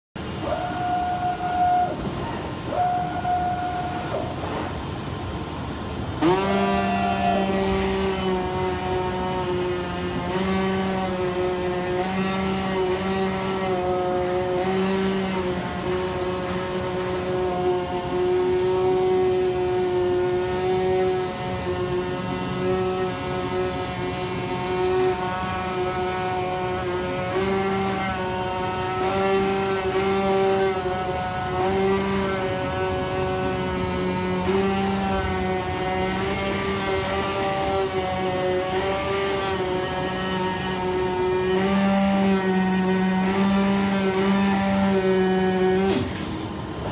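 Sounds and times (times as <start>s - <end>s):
cutting machine hum: 0.2s - 46.9s
motor whine: 0.2s - 46.9s.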